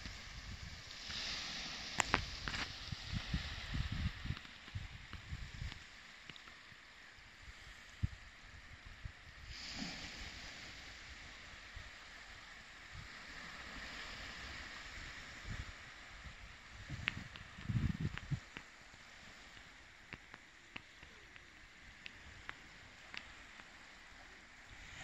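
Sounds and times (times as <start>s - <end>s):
small waves washing on beach: 0.0s - 25.0s.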